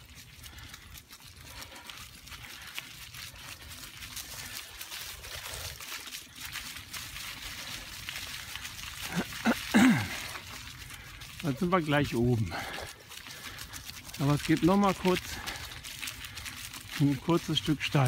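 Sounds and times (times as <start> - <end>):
bicycle tyres on gravel: 0.0 - 18.0.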